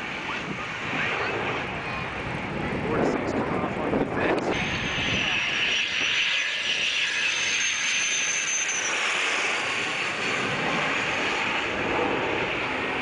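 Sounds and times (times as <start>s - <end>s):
jet passing overhead: 0.0s - 13.0s.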